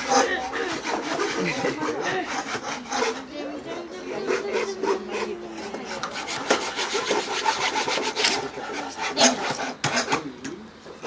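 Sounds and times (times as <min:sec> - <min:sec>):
rasping scrape on wood: 0:00.0 - 0:10.3.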